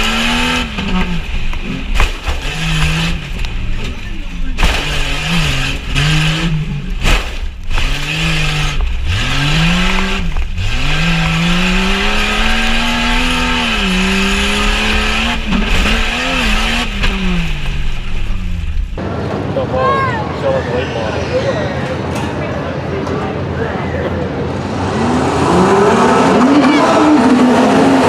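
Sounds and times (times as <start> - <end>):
car engine revving: 0.0 - 19.4, 24.3 - 28.0.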